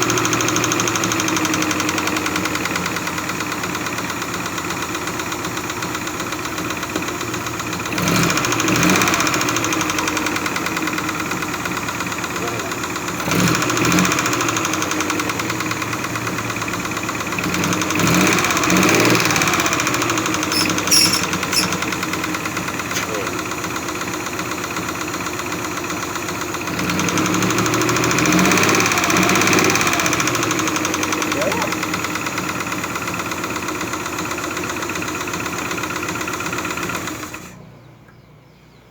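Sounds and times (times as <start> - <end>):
engine idling with rapid knocking: 0.0 - 38.9.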